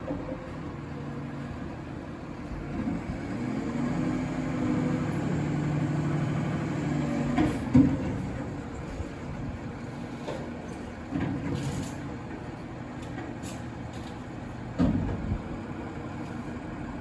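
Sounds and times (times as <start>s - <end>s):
garbage truck engine droning: 0.0s - 17.0s.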